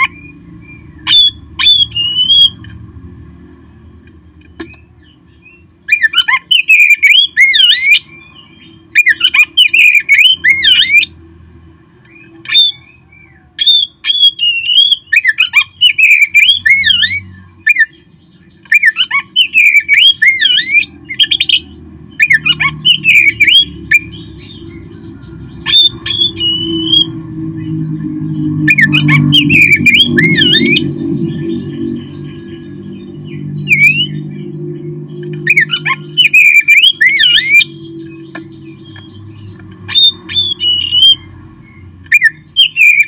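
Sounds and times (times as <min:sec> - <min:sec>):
magpie-robin singing whistled phrases: 0:00.0 - 0:02.6, 0:04.5 - 0:11.2, 0:12.1 - 0:27.3, 0:28.6 - 0:32.3, 0:33.2 - 0:41.2, 0:42.1 - 0:43.0
steady low hum: 0:00.0 - 0:42.6.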